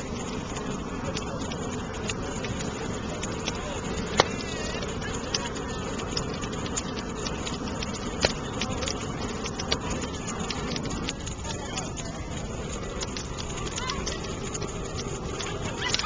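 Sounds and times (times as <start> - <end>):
bonfire rushing and crackling: 0.0 - 16.0.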